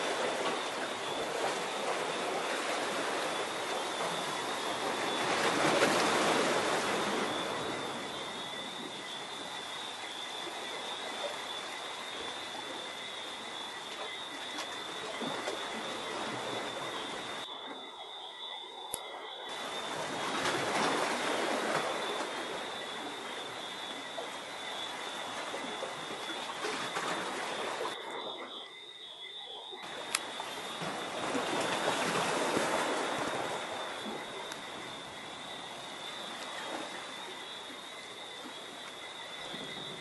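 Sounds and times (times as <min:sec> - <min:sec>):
hiss of surf or wind: 0:00.0 - 0:13.4, 0:19.5 - 0:28.0, 0:29.8 - 0:40.0
frogs calling: 0:00.0 - 0:40.0.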